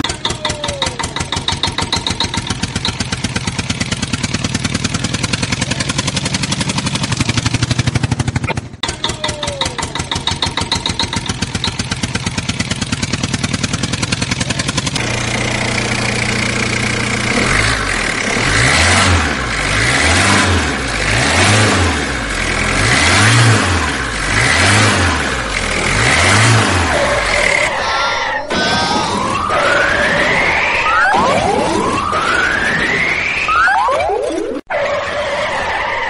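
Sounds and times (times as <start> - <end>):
truck engine revving: 0.0 - 33.6
tractor engine puttering: 0.0 - 33.8.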